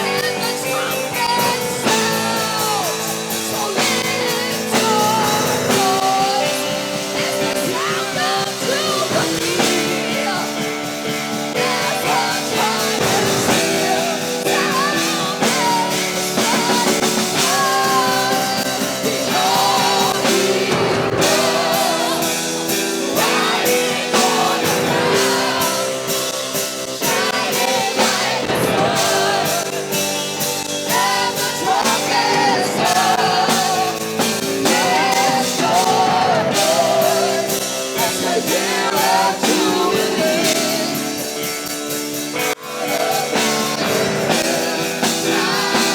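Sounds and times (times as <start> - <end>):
worship band playing: 0.0 - 45.9.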